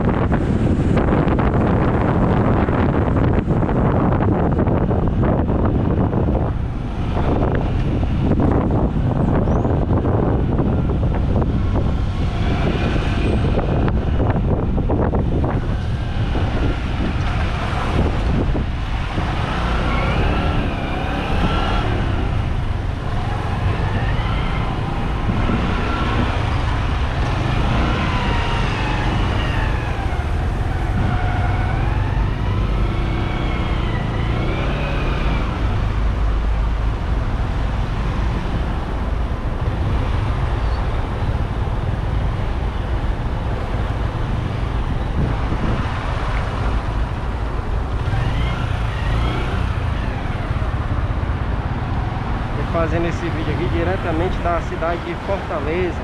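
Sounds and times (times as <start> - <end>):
motorcycle road noise: 0.0 - 56.0
wind rumble: 0.0 - 56.0.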